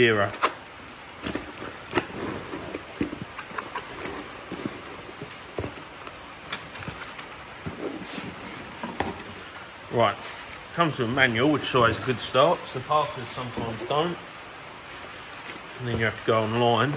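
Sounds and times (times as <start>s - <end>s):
cardboard box being unpacked: 0.2s - 12.4s, 14.8s - 16.9s.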